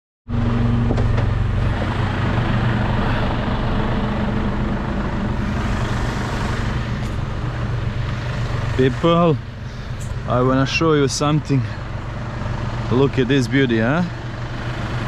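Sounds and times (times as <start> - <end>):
road noise: 0.3 - 15.0
truck diesel engine running: 0.3 - 15.0.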